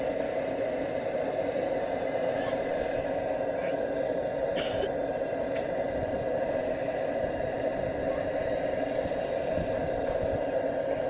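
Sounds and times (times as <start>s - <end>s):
blowlamp hissing: 0.0s - 11.0s.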